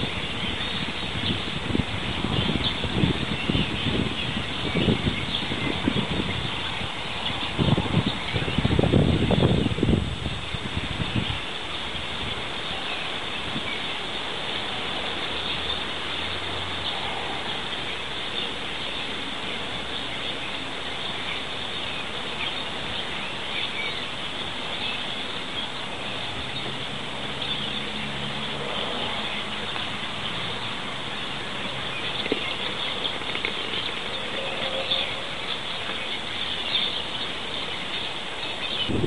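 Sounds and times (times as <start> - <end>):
starlings chattering and calling: 0.0 - 39.0.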